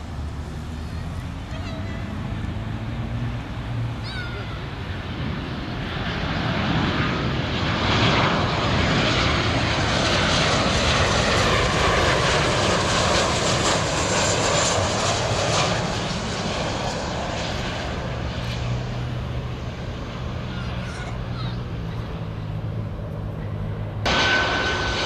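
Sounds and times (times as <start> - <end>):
jet airliner engines roaring: 0.0 - 25.0.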